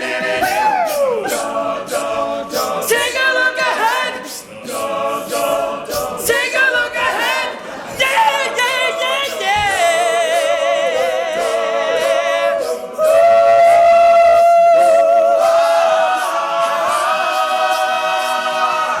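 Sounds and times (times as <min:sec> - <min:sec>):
male a cappella group singing: 0:00.0 - 0:19.0.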